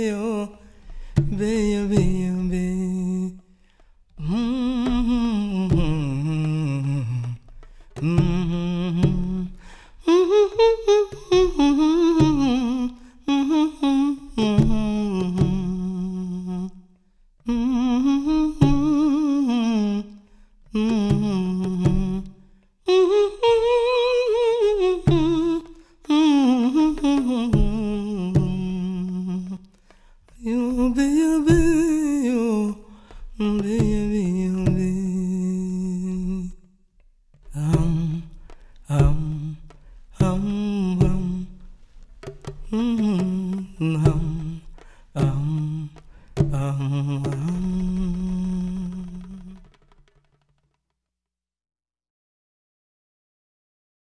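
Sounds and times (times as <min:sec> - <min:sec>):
man humming: 0:00.0 - 0:36.7, 0:37.4 - 0:50.0.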